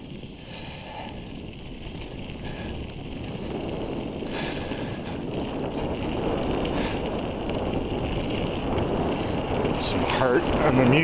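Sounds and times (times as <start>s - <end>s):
bike tyre rumble: 0.0s - 11.0s
wind rushing over microphone: 0.0s - 11.0s.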